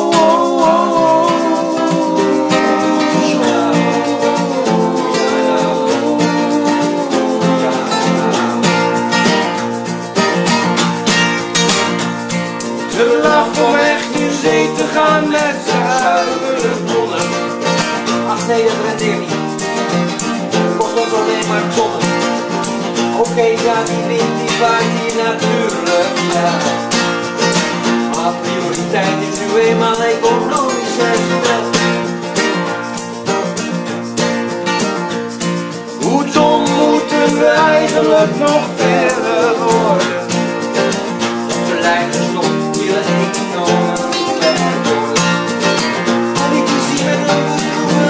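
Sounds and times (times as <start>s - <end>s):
acoustic guitars playing: 0.0s - 48.0s.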